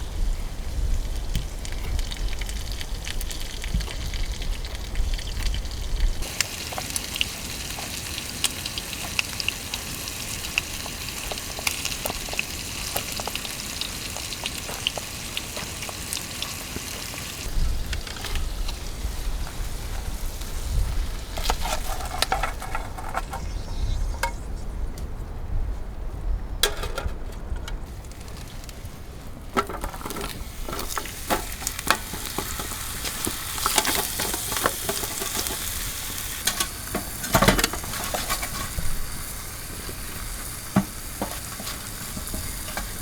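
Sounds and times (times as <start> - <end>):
food sizzling in a pan: 0.0 - 24.7, 29.8 - 43.0.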